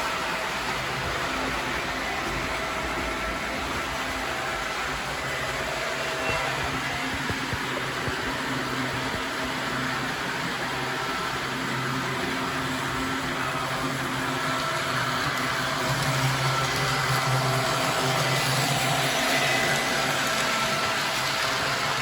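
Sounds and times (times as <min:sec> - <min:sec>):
model train motor hum: 0:00.0 - 0:22.0.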